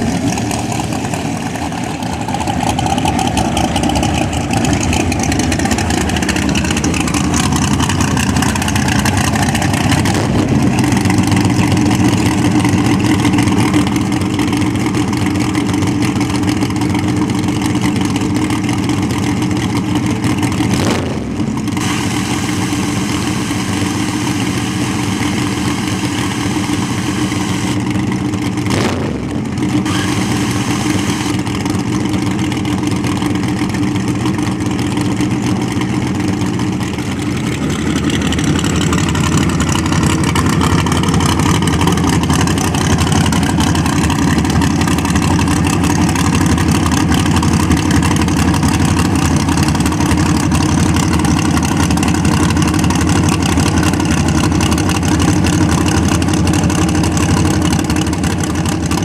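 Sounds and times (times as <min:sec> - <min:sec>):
race car engines running: 0:00.0 - 0:59.0.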